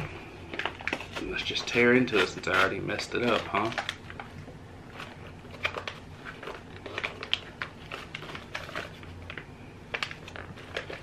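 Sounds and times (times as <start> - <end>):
foil bag crinkling: 0.0 - 11.0.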